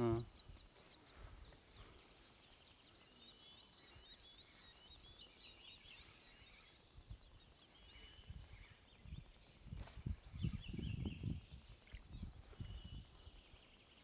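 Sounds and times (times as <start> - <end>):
songbird twittering: 0.0 - 14.0.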